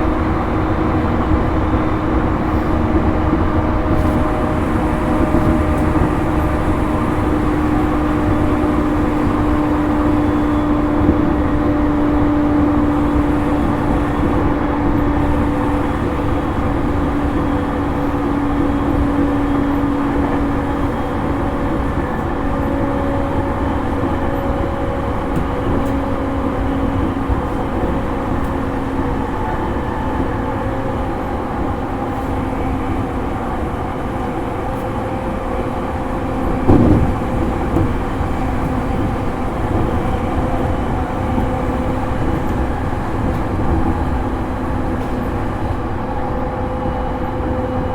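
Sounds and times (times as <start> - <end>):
rail and wheel rumble: 0.0 - 47.9
traction motor hum: 0.0 - 47.9.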